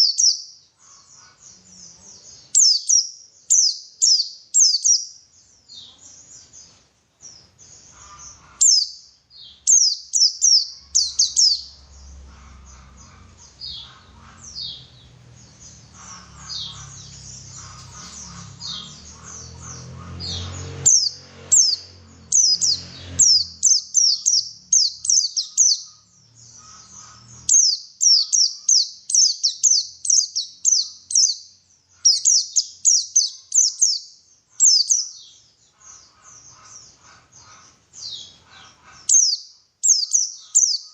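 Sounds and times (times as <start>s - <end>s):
bird singing rapid high chirps: 0.0s - 40.9s.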